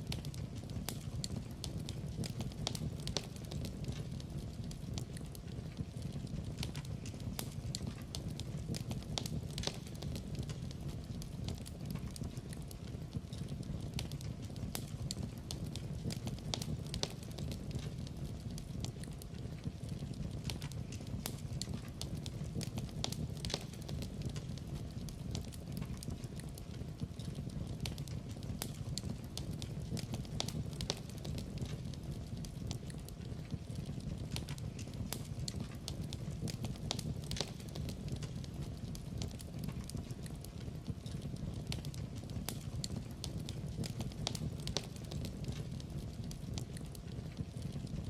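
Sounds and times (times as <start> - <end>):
low rumble of fire: 0.0 - 48.0
wood fire popping and snapping: 0.0 - 48.0.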